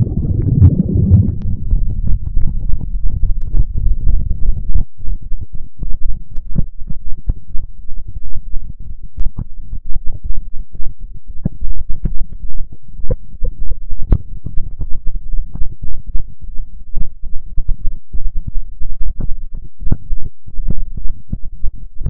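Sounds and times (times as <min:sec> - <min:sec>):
distorted low rumble: 0:00.0 - 0:22.0.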